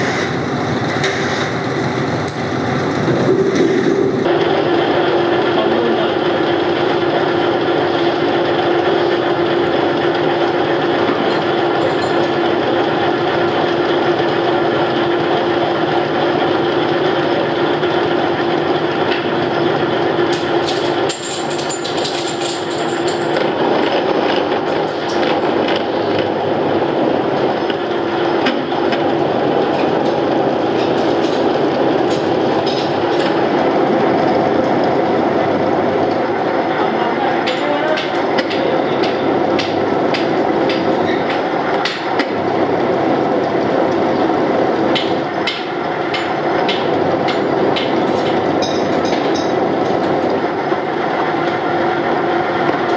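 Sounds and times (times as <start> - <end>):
hobbing machine humming: 0.0 - 52.9.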